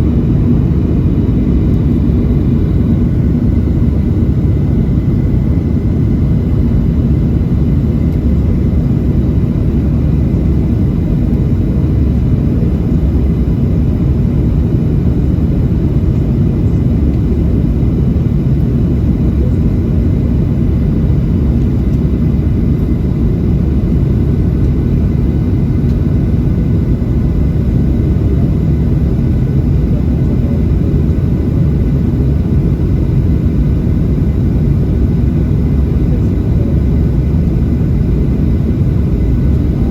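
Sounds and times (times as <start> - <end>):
airflow and jet engine rumble: 0.0 - 39.9
faint steady whine: 0.0 - 39.9.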